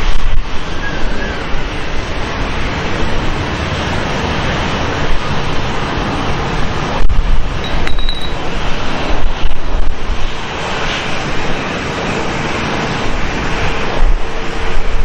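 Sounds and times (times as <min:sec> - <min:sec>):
faint engine whine: 0:00.0 - 0:15.0
jet engines roaring: 0:00.0 - 0:15.0
wind buffeting microphone: 0:00.0 - 0:15.0.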